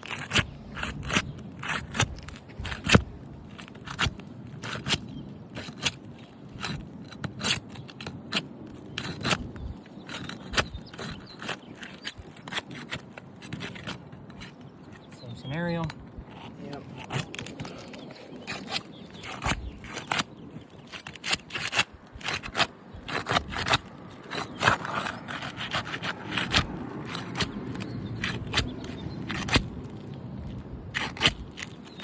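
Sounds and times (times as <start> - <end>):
metal tool scraping shingles: 0.0 - 15.1, 15.7 - 30.0, 30.9 - 32.0.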